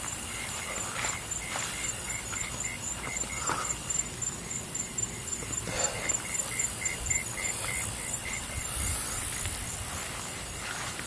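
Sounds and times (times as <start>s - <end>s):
footsteps and rustles: 0.0s - 4.4s, 5.4s - 11.0s
night insects chirping: 0.0s - 11.0s.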